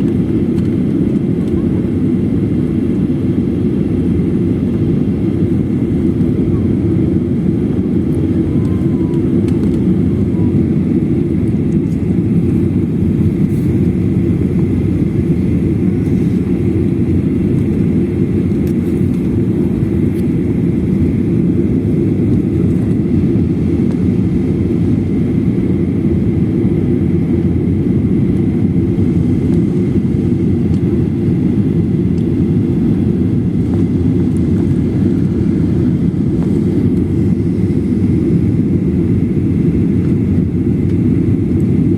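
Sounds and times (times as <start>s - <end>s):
jet airliner engine rumble: 0.0s - 41.9s.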